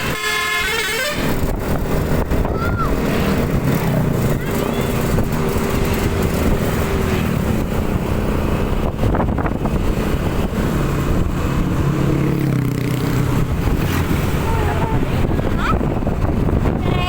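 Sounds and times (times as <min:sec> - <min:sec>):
vehicle engines: 0:00.0 - 0:17.0
deep engine drone: 0:00.4 - 0:17.0.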